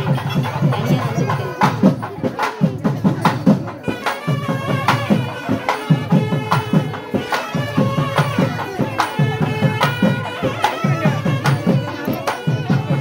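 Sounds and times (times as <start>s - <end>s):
fast drumming: 0.0s - 13.0s
piped melody: 0.0s - 13.0s.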